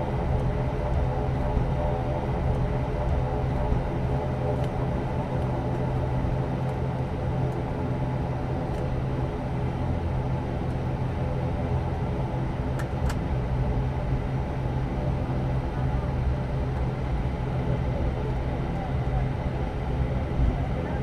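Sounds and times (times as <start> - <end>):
turboprop engine drone in cabin: 0.0 - 21.0.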